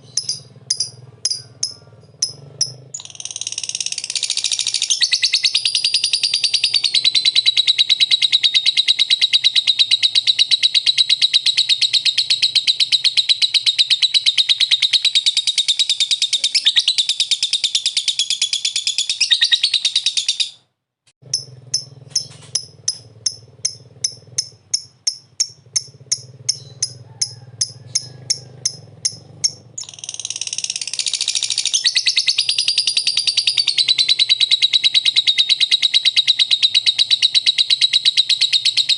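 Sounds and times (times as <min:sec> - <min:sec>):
bird chattering trill: 0:00.0 - 0:20.6, 0:21.2 - 0:38.9
sharp bird chirps: 0:00.0 - 0:38.9.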